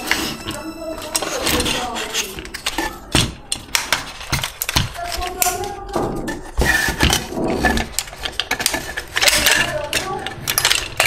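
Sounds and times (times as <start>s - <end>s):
plastic toy parts clicking: 0.0s - 11.0s.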